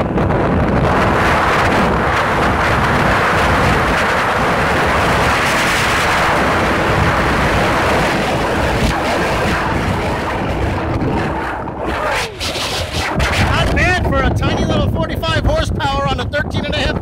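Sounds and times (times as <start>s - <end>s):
outboard engine hum: 0.0s - 14.4s
wind rushing on microphone: 0.0s - 17.0s.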